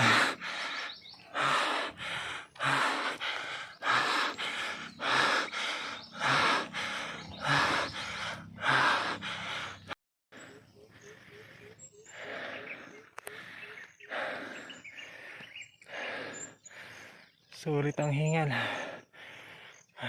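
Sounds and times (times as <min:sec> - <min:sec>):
cyclist heavy panting: 0:00.0 - 0:17.5, 0:18.2 - 0:20.0.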